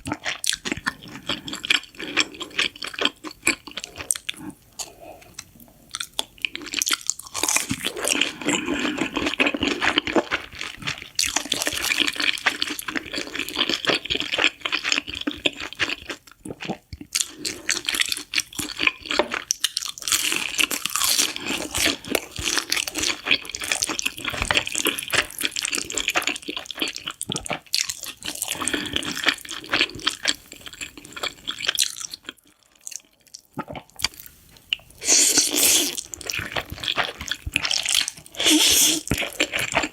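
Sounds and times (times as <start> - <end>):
slurping and chewing noodles: 0.0 - 39.9.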